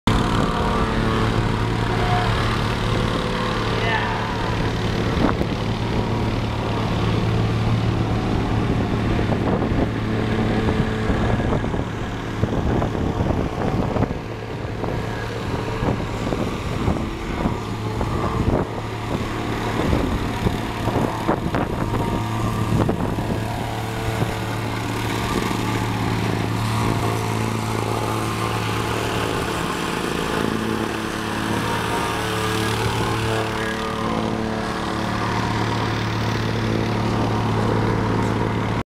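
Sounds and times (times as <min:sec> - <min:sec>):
paving machine engine running: 0:00.1 - 0:38.8.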